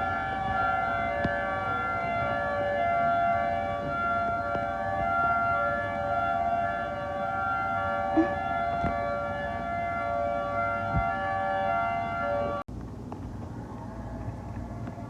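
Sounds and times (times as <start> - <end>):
warning sirens steady tone: 0.0 - 12.7.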